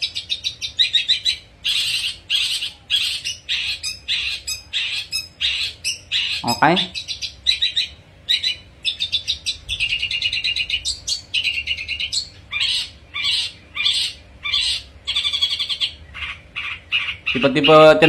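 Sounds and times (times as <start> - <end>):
songbird trilling and chirping: 0.0 - 18.0.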